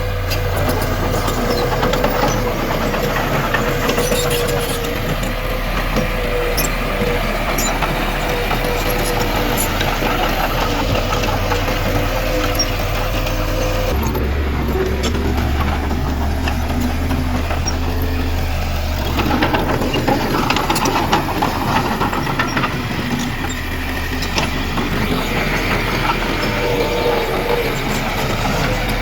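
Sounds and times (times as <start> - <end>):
diesel engine running: 0.0 - 29.0
clanking and knocking: 0.2 - 29.0.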